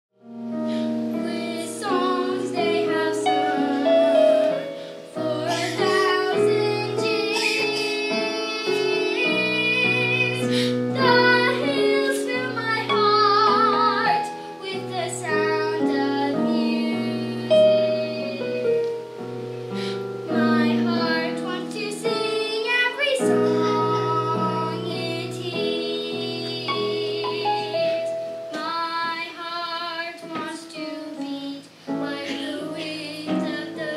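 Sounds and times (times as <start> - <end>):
instrumental accompaniment: 0.2 - 33.9
girl singing: 0.7 - 19.0, 19.8 - 33.9.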